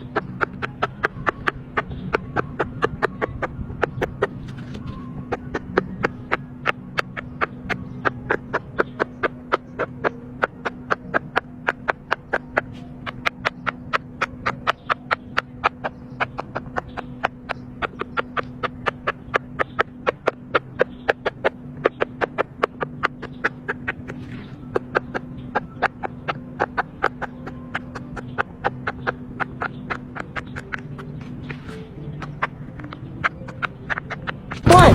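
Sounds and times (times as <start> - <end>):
pop-it toy bubbles popping: 0.0 - 31.6.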